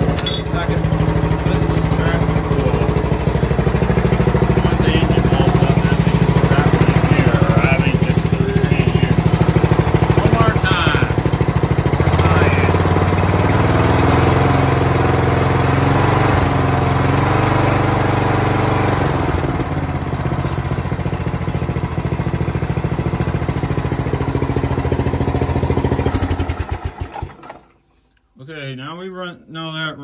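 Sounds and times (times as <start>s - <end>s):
lawn tractor engine running: 0.0s - 27.8s.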